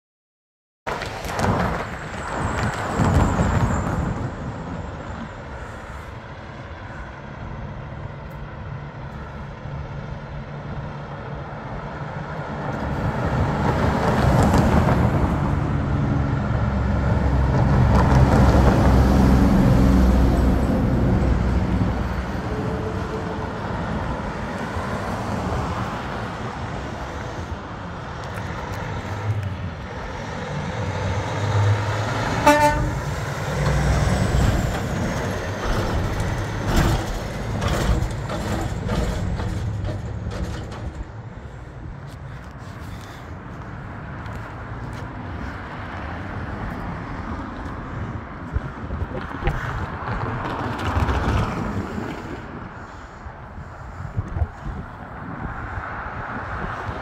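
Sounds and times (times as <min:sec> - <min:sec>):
car passing: 0:00.9 - 0:57.0.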